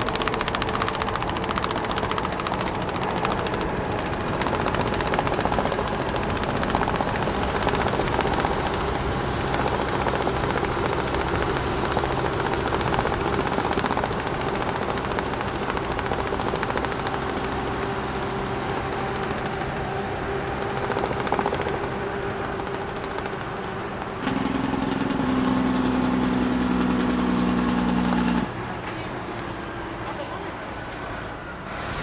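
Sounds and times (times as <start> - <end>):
straps flapping in wind: 0.0 - 29.6
truck engine drone: 0.0 - 32.0.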